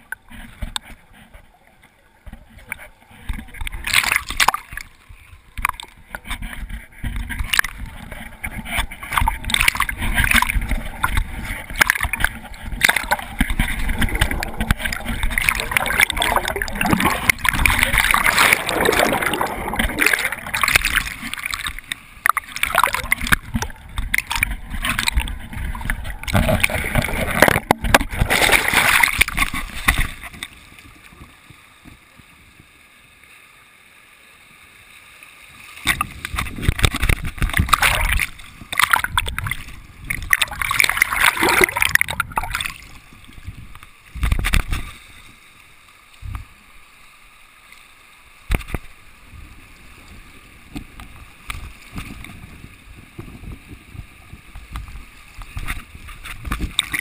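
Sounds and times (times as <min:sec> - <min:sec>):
underwater gurgling: 0:00.0 - 0:33.2, 0:34.7 - 0:57.0
river water splashing: 0:02.3 - 0:31.8, 0:34.6 - 0:53.2, 0:54.4 - 0:57.0.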